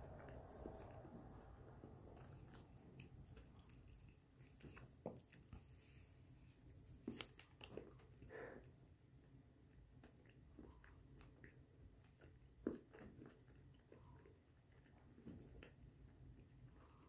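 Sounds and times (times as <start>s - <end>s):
person chewing: 0.1s - 8.6s, 9.8s - 15.8s.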